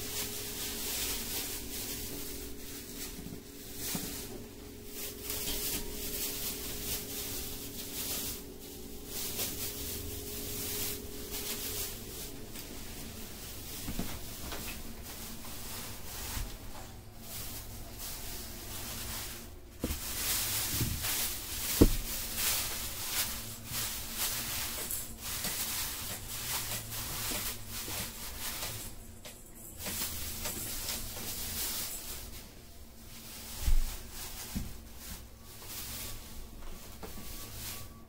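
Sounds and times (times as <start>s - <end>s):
plastic bags rustling: 0.0s - 38.0s.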